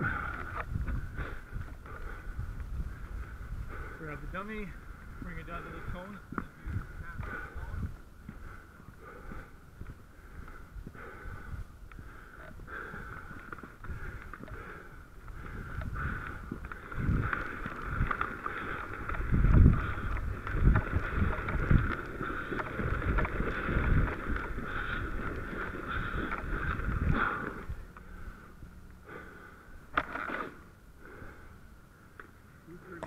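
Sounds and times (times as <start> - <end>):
dummy dragged over asphalt: 0.0 - 33.0.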